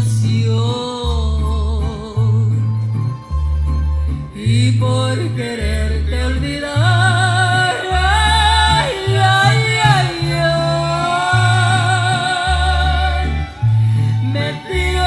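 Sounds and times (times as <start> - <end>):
person singing with vibrato: 0.0 - 3.1, 4.1 - 15.0
deep bass line: 0.0 - 15.0.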